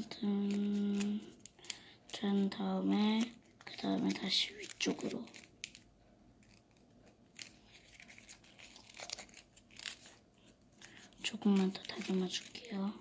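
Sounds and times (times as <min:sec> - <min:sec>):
paper crinkling and rustling: 0:00.3 - 0:13.0.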